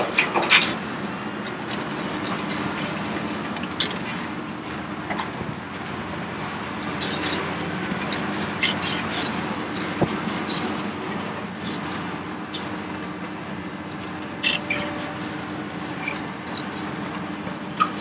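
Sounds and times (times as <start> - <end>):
high-pitched squeaks and clicks: 0.0 - 17.2, 17.8 - 18.0
dump truck idling: 0.0 - 18.0
excavator engine and hydraulics: 0.0 - 18.0.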